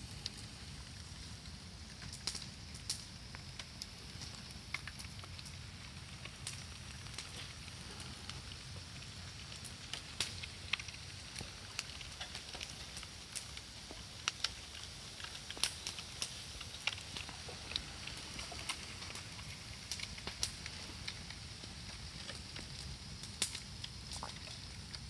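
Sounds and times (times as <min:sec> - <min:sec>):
bonfire crackling and popping: 0:00.0 - 0:25.0.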